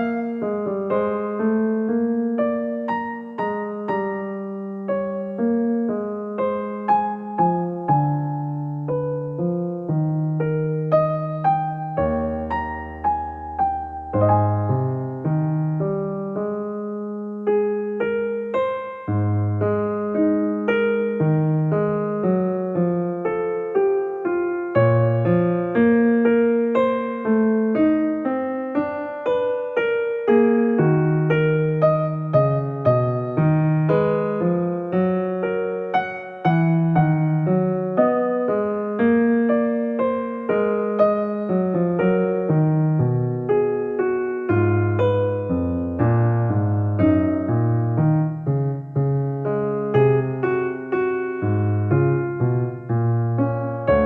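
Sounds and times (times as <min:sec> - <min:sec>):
gentle solo piano music: 0:00.0 - 0:54.0.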